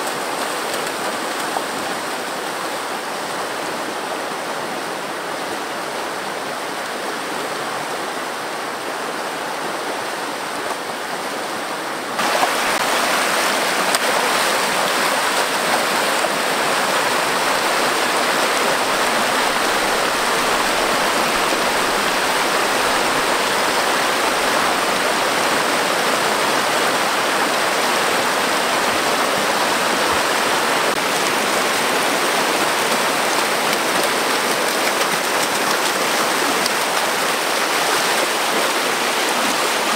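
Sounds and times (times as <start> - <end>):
stream rushing over rocky rapids: 0.0 - 39.9.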